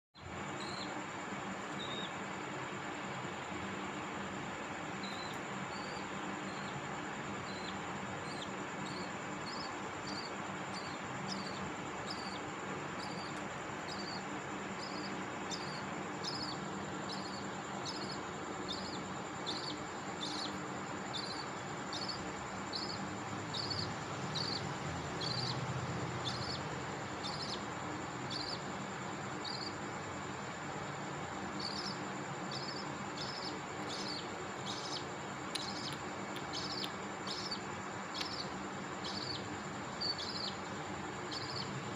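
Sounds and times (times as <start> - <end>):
background hiss: 0.2 - 41.9
budgerigars chirping: 0.5 - 1.0, 1.7 - 2.2, 5.0 - 30.1, 30.7 - 41.8.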